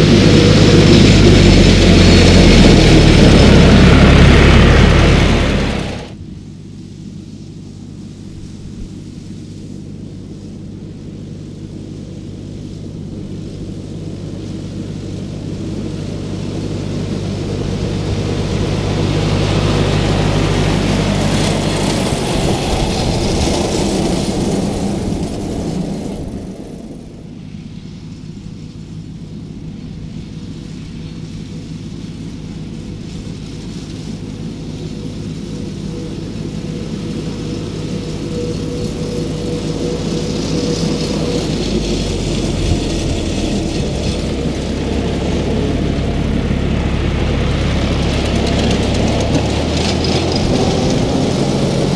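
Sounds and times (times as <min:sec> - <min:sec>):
diesel tractor passing: 0:00.0 - 0:51.9
tractor engine running: 0:00.0 - 0:51.9.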